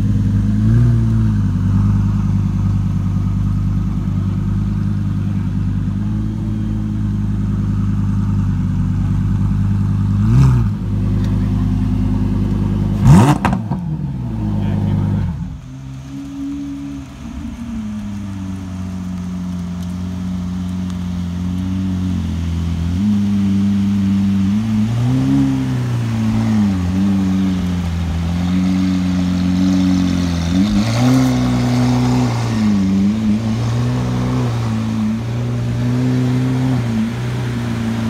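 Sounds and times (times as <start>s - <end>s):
car engine at low revs: 0.0s - 38.0s.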